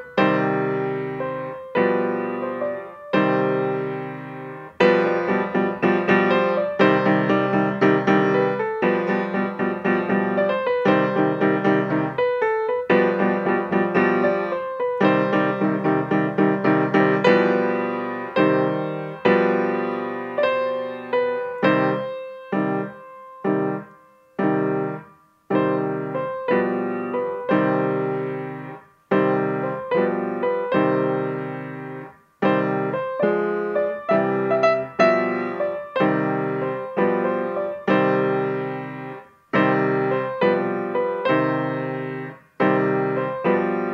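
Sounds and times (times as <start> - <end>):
solo piano playing: 0.0 - 43.9.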